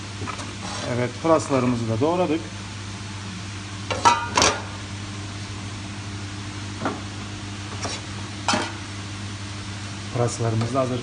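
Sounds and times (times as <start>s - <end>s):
kitchen equipment hum: 0.0s - 11.0s.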